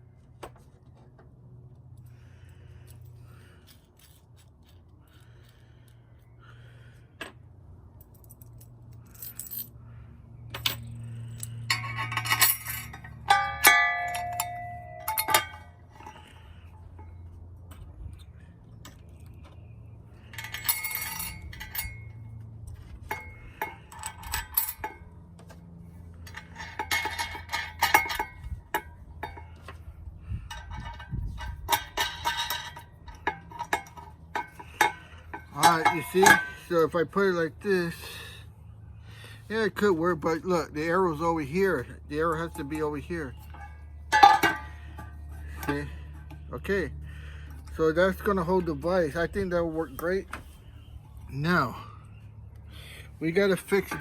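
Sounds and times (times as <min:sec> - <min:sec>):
metal clinking and scraping: 0:02.0 - 0:06.3, 0:08.0 - 0:38.1, 0:39.5 - 0:52.2, 0:52.9 - 0:54.0.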